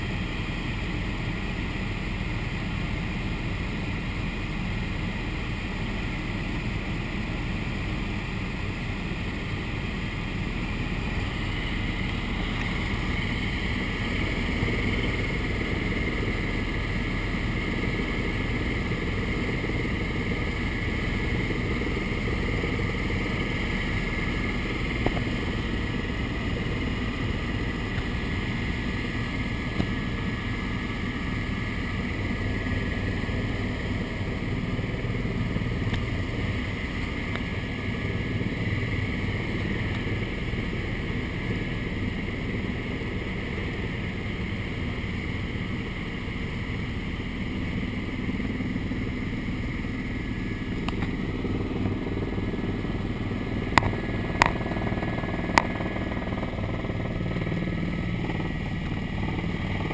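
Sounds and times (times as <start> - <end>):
helicopter engine and rotor noise: 0.0 - 59.9
high whine: 7.6 - 59.9.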